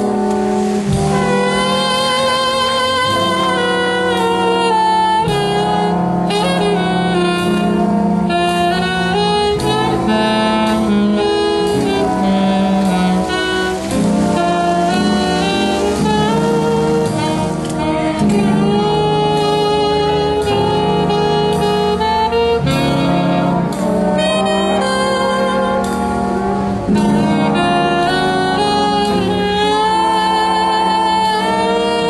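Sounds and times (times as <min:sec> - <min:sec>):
alto saxophone ballad melody: 0:00.0 - 0:32.0
jazz band accompaniment: 0:00.0 - 0:32.0.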